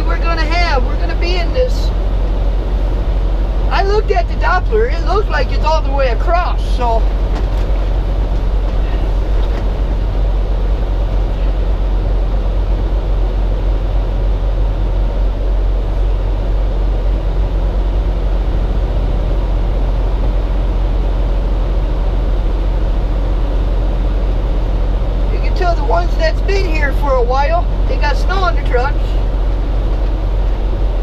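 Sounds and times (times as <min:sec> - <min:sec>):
road noise: 0:00.0 - 0:31.0
truck engine drone: 0:00.0 - 0:31.0.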